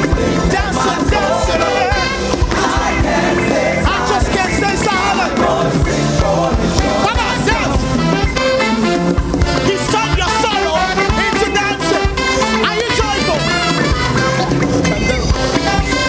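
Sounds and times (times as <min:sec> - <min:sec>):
gospel band playing: 0:00.0 - 0:16.0
voices singing: 0:00.0 - 0:16.0.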